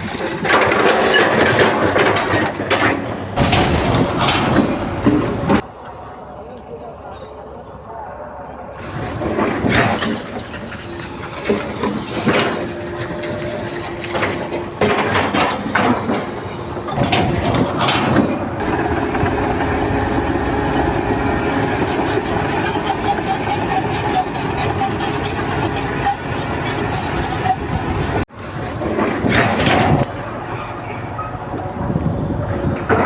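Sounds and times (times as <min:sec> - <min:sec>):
machinery knocks and clanks: 0:00.0 - 0:05.6, 0:08.8 - 0:33.0
heavy machinery humming and whining: 0:00.0 - 0:33.0.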